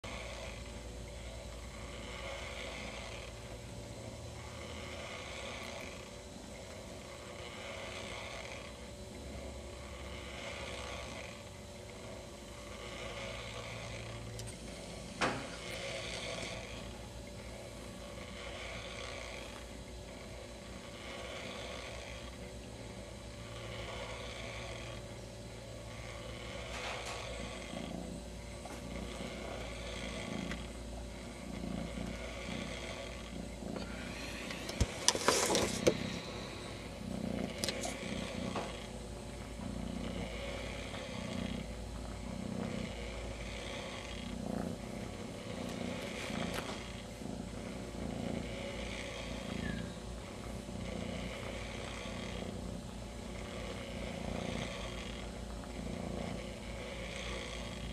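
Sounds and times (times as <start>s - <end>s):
kitten purring: 0.0s - 57.9s.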